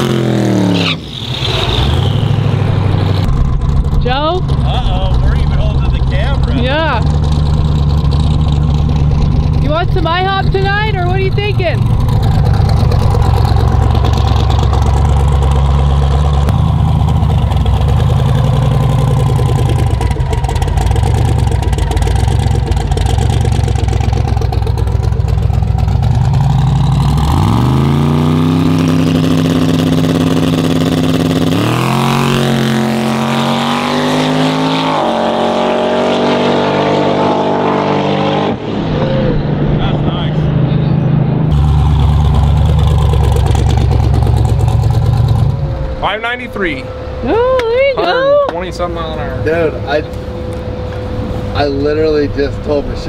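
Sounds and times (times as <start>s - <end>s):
drag car engine idling and revving: 0.0s - 53.0s.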